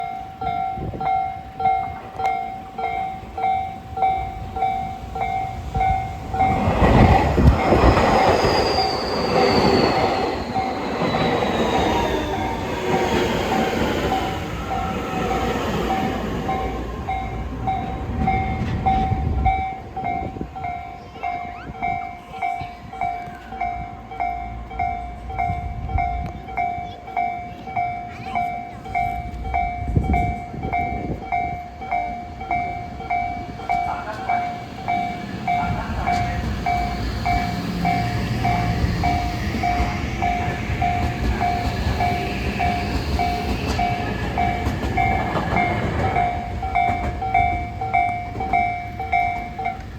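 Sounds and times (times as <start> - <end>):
train rushing past: 0.0 - 49.9
wheels clattering on rail joints: 0.0 - 49.9.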